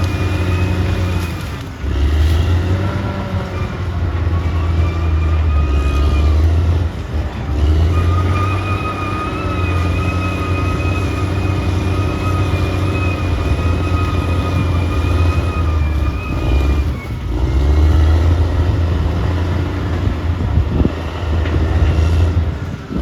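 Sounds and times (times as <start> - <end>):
bulldozer diesel engine drone: 0.0 - 23.0.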